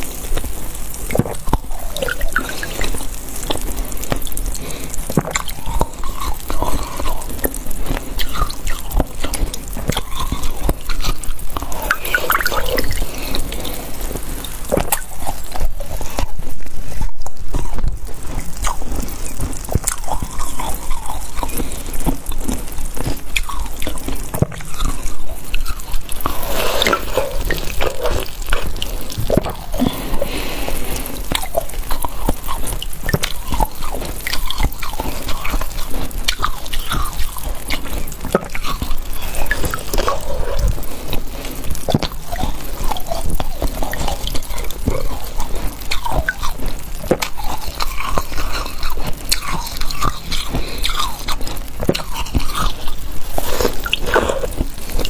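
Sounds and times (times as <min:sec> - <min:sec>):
cola dripping into bowl: 0:00.0 - 0:55.0
ice being chewed: 0:00.0 - 0:55.0.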